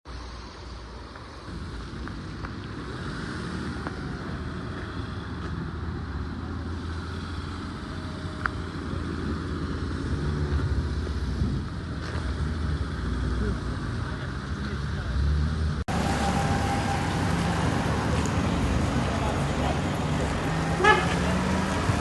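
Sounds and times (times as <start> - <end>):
vehicle engine rumbling: 0.1 - 22.0.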